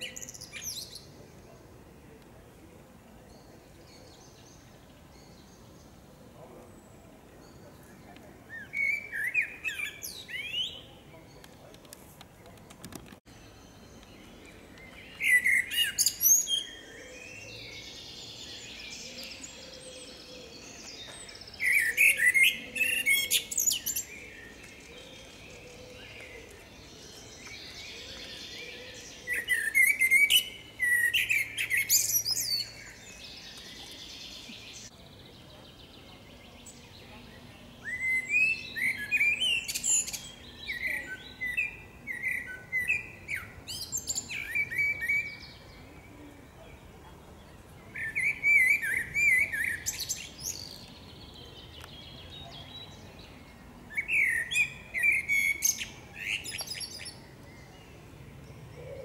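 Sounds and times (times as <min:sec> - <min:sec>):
blackbird singing: 0:00.0 - 0:01.7, 0:03.2 - 0:11.6, 0:13.3 - 0:59.0.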